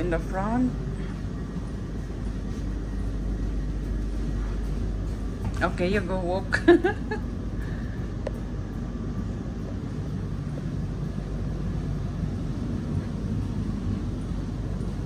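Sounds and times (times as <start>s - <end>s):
train carriage rumble and hum: 0.0s - 15.0s.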